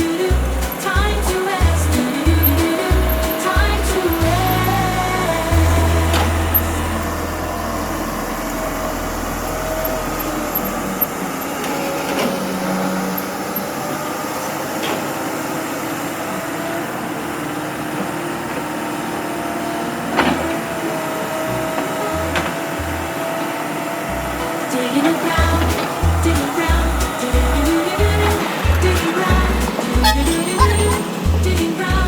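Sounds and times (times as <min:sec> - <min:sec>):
heavy construction machinery running: 0:00.0 - 0:32.0.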